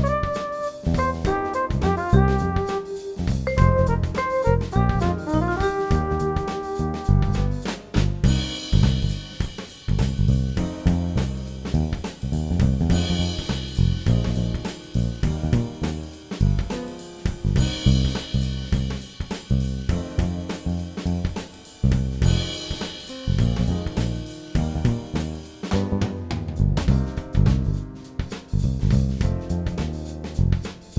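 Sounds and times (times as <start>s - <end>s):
music with drum kit and bass: 0.0s - 30.9s.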